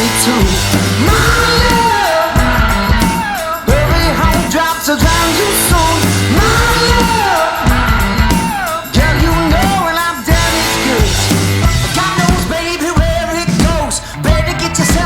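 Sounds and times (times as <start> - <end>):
loud rock song: 0.0 - 15.0.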